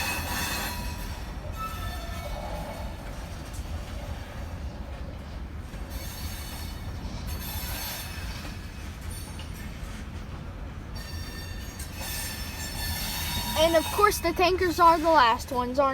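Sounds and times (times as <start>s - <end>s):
train wheels rumbling on rails: 0.0s - 15.9s.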